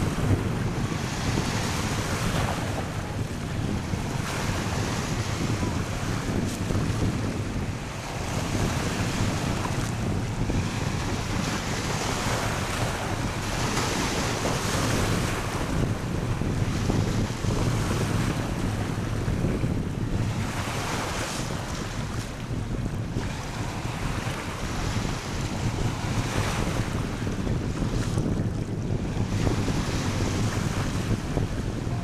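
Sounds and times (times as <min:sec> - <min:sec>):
sea waves on shore: 0:00.0 - 0:32.0
wind buffeting microphone: 0:00.0 - 0:32.0.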